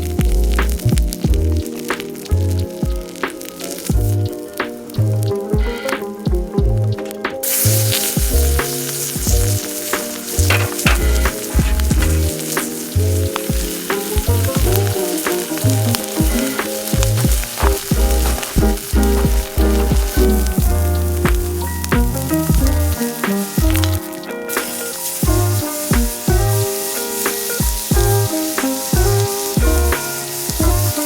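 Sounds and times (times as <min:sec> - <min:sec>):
background music with beat: 0:00.0 - 0:31.0
food sizzling in a pan: 0:00.6 - 0:04.1, 0:07.4 - 0:31.0.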